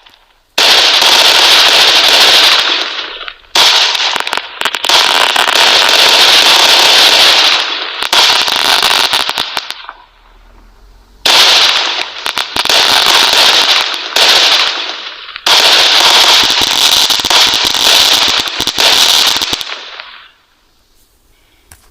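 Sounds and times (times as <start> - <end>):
fireworks crackling: 0.0 - 21.9.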